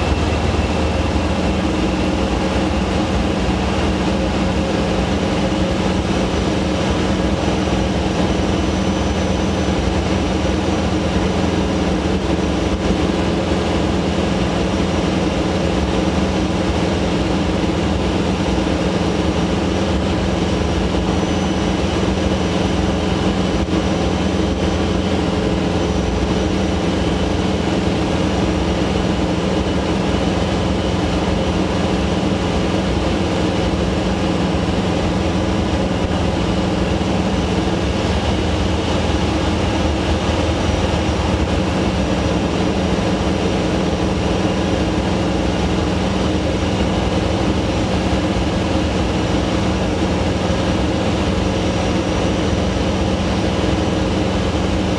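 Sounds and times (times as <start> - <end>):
light aircraft engine and propeller: 0.0 - 54.9.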